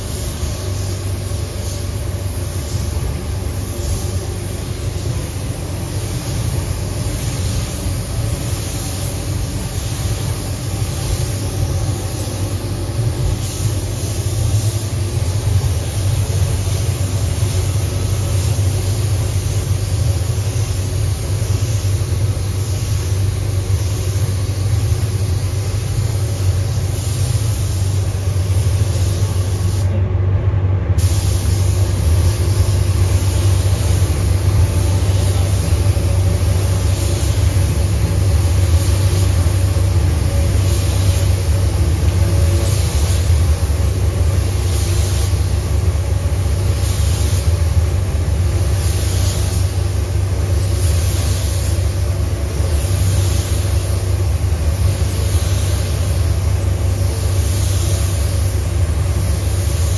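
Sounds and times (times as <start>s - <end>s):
spray gun air hiss: 0.0s - 30.0s, 31.0s - 59.9s
steady low rumble: 0.0s - 59.9s.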